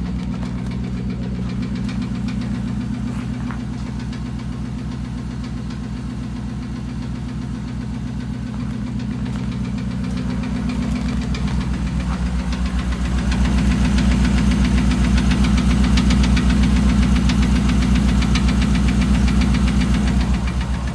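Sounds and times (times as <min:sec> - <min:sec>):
engine running with rapid knocking: 0:00.0 - 0:20.9.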